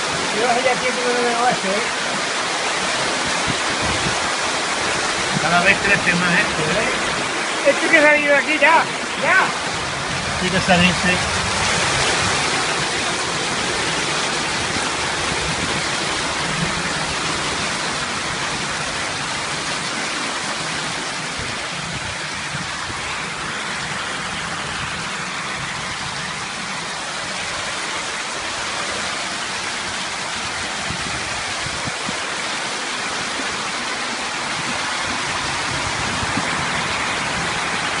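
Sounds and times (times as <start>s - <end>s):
flood water rushing over street: 0.0s - 38.0s.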